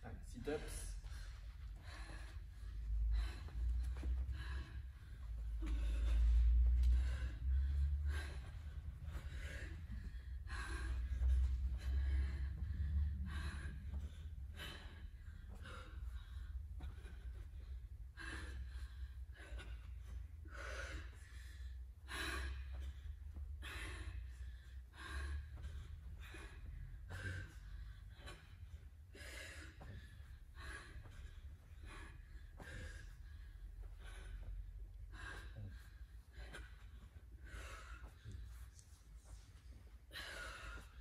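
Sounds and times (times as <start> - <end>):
steady low hum: 0.0 - 41.0
woman breathing hard: 0.0 - 41.0.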